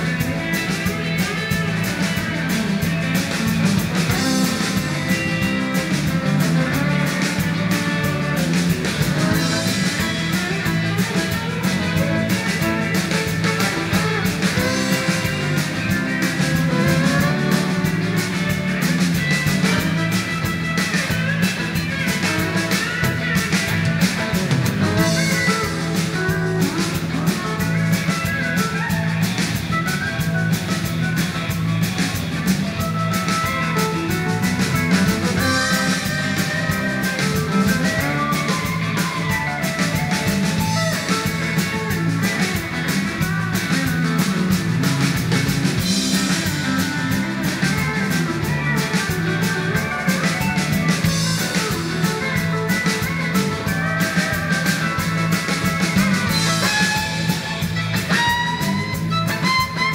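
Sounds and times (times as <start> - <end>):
electric guitar: 0.0 - 59.9
live band music: 0.0 - 59.9
steel guitar: 0.0 - 59.9.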